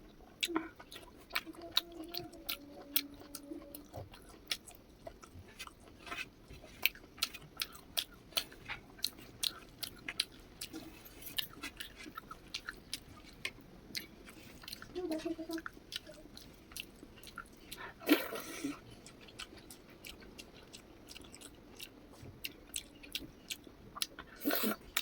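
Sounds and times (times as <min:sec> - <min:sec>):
person chewing with mouth clicks: 0:00.0 - 0:25.0.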